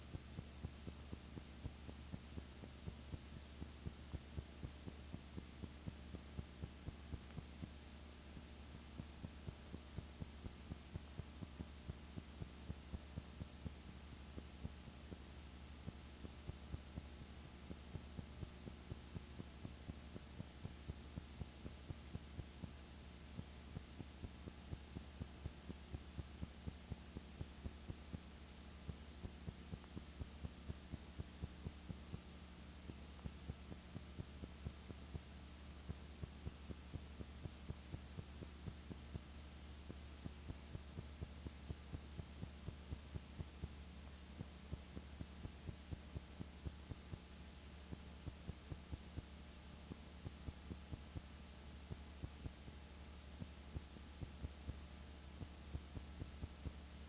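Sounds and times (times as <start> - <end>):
faint regular ticks: 0.0 - 57.0
light hiss: 0.0 - 57.0
low electrical hum: 0.0 - 57.0.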